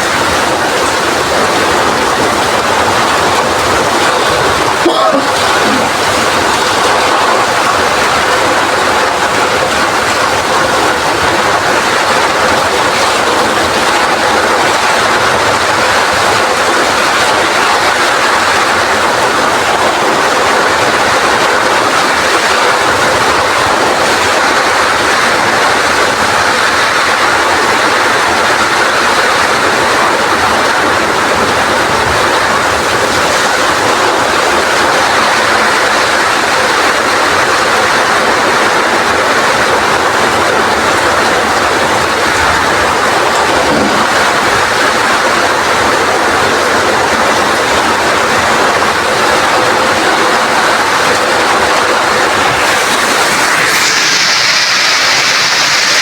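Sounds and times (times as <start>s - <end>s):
heavy rain in strong wind: 0.0s - 56.0s.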